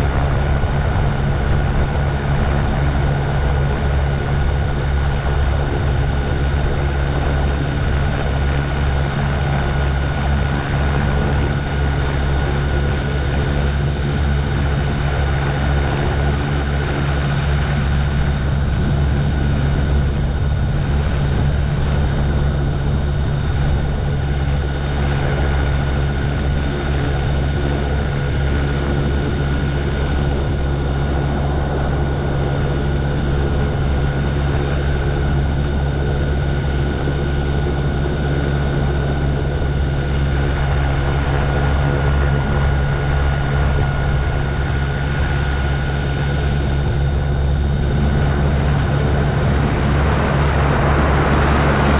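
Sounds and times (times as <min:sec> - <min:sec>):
aircraft engine and propeller drone: 0:00.0 - 0:51.9.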